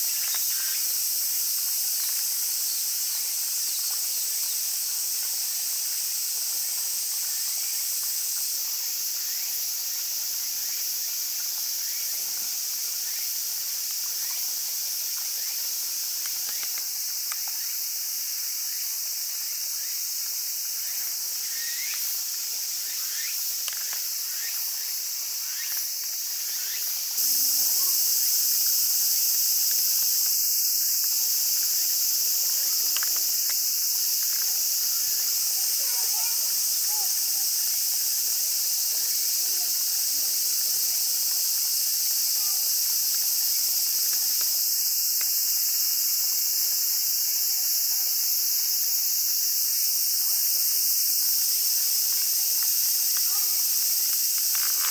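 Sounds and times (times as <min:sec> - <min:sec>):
cicadas buzzing: 0:00.0 - 0:54.9.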